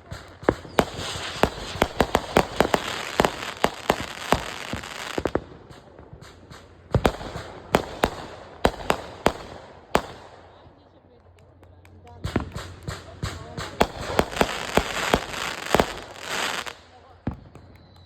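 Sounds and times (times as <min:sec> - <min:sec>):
fireworks crackling hiss: 0:00.0 - 0:10.7, 0:12.2 - 0:17.4
fireworks bangs: 0:00.0 - 0:11.4, 0:12.0 - 0:18.0.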